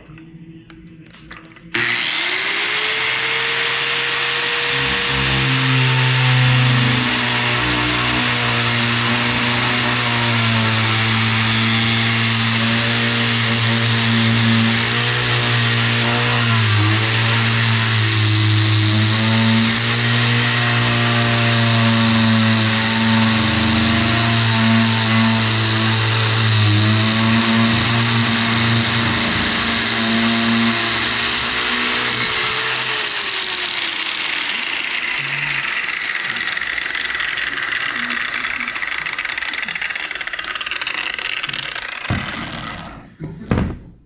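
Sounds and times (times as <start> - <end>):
angle grinder cutting wood: 1.7 - 43.1.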